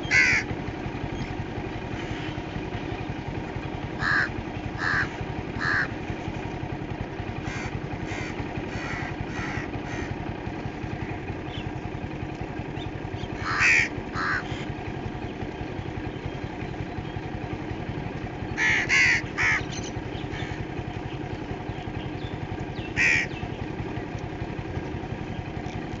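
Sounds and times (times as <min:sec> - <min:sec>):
harsh bird calls: 0:00.0 - 0:06.2, 0:07.2 - 0:26.0.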